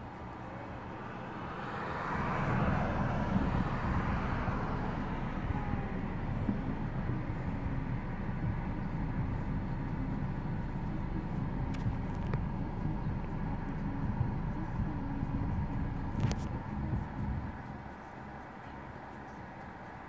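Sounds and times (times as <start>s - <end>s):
vehicle passing: 0.0s - 20.0s
low rumble: 2.3s - 18.4s.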